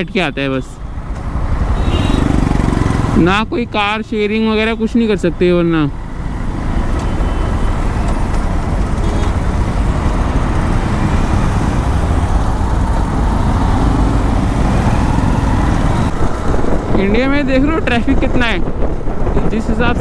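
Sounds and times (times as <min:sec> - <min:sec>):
engines running in traffic: 0:00.0 - 0:20.0
low road noise: 0:00.0 - 0:20.0.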